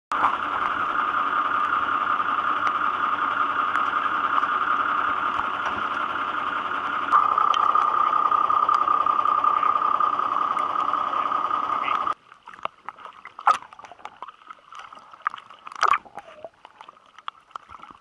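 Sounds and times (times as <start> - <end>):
muffled boat engine running: 0.1 - 18.0.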